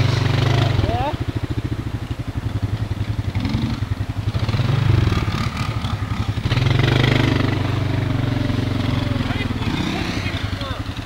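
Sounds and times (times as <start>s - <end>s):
small atv engine revving: 0.0s - 2.0s, 3.2s - 11.0s.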